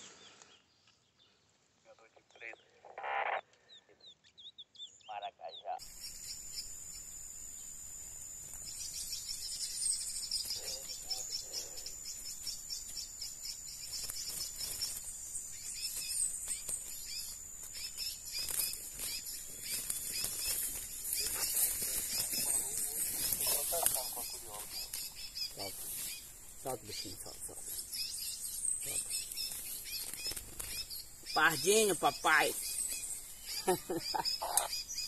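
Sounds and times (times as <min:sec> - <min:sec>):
insect chorus drone: 0:04.8 - 0:35.0.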